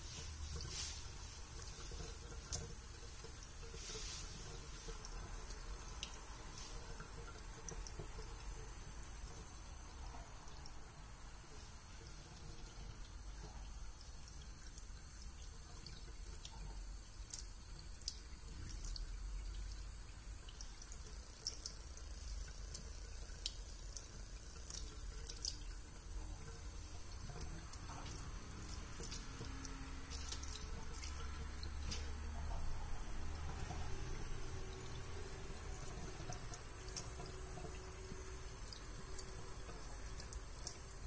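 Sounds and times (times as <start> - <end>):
tap water running into sink: 0.0 - 41.0
water drips and splashes: 0.0 - 41.0.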